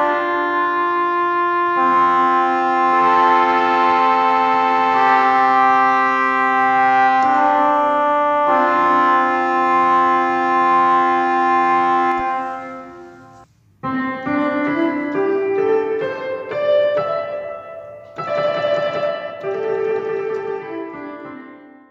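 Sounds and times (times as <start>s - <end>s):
piano-like melody: 0.0s - 21.9s
sustained keyboard chords: 0.0s - 21.9s.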